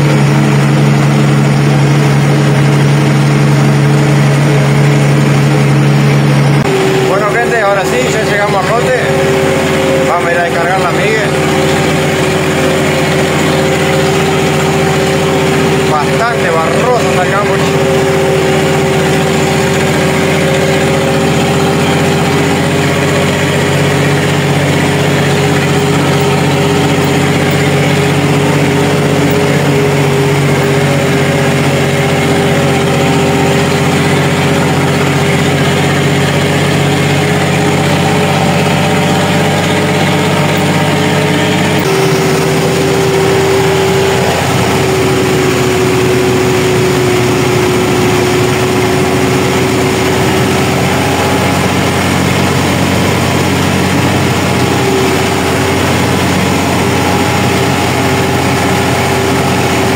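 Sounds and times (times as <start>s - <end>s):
constant whining tone: 0.0s - 59.9s
tractor engine droning: 0.0s - 59.9s.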